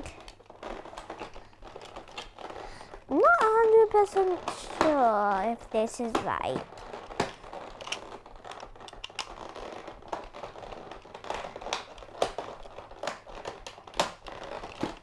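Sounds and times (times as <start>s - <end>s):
plastic toy parts clicking: 0.0s - 15.0s
rustling plastic packaging: 0.0s - 15.0s.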